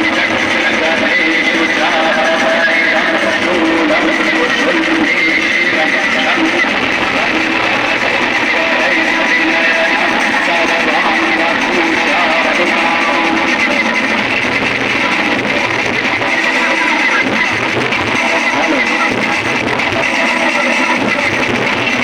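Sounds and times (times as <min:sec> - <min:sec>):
loud instrumental music: 0:00.0 - 0:22.0.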